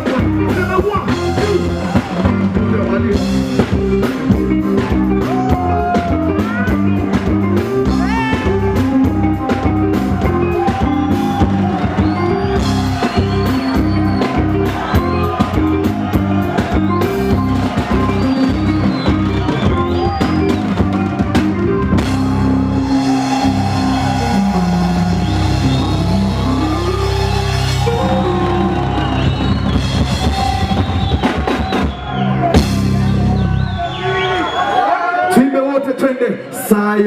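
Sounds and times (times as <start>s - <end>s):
drum kit beat: 0.0s - 33.9s
bass line: 0.0s - 34.7s
live band instrumental: 0.0s - 35.4s.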